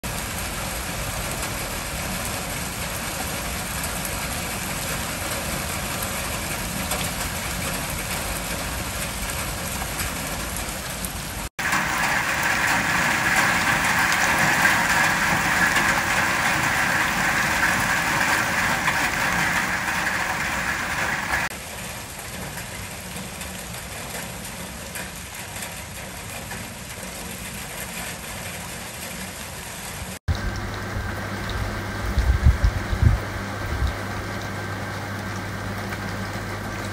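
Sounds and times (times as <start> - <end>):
heavy rain splashing on pavement: 0.0 - 36.9.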